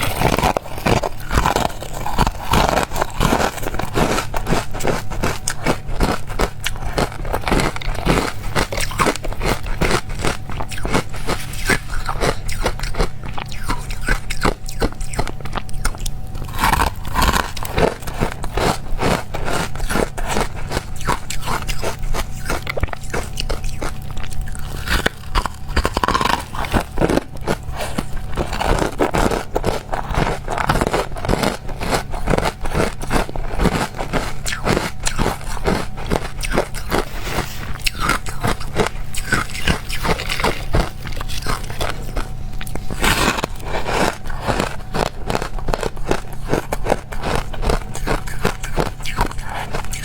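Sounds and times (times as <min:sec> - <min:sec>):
ice crunching being chewed: 0:00.0 - 0:50.0.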